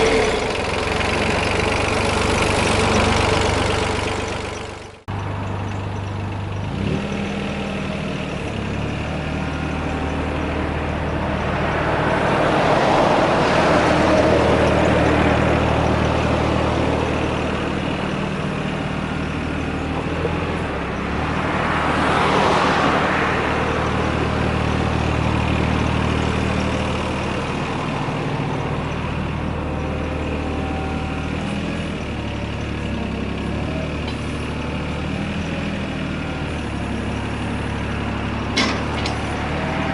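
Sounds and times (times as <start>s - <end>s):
mini excavator diesel engine: 0.0s - 39.9s.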